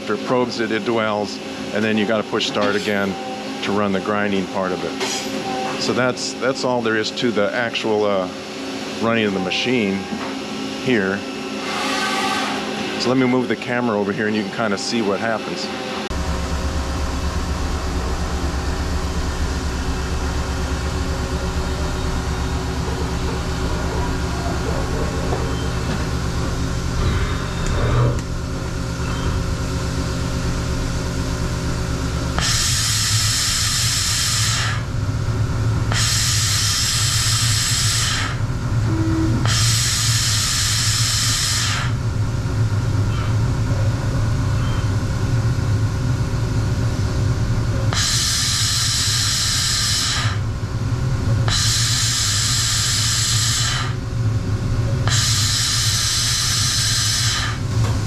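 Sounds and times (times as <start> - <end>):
grinder machine hum: 0.0 - 58.0.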